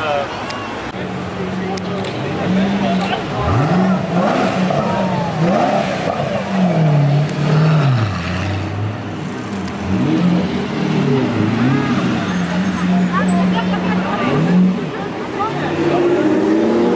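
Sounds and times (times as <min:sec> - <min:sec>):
car engine revving: 0:01.4 - 0:16.9.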